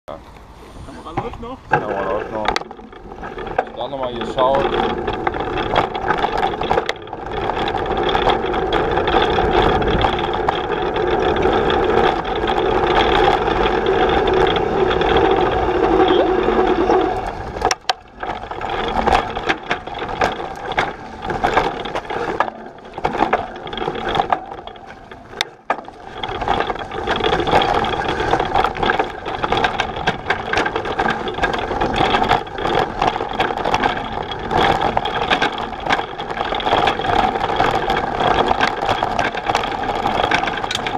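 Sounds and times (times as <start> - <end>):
bike frame rattling: 0.1 - 40.9
electric bike motor humming: 0.2 - 40.9.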